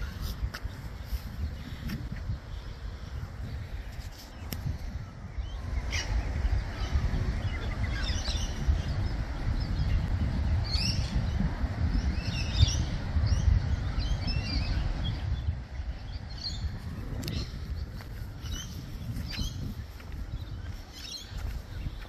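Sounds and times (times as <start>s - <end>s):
birds chirping and calling: 0.0s - 22.0s
steady low rumble: 0.0s - 22.0s.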